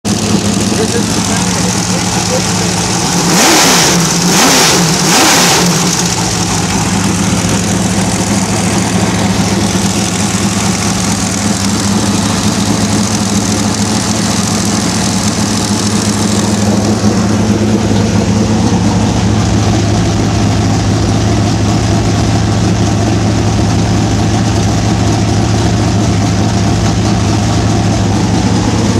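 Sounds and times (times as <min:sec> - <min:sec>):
race car engine idling: 0:00.0 - 0:28.9.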